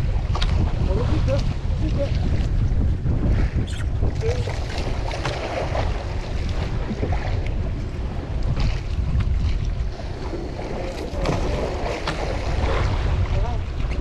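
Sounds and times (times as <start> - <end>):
water slapping against boat: 0.0 - 14.0
wind buffeting microphone: 0.0 - 14.0.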